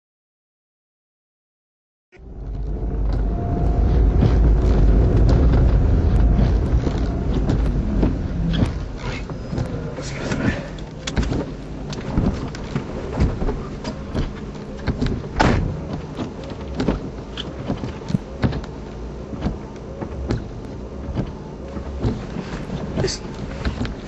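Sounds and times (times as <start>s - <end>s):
engine and road rumble: 2.2s - 24.0s.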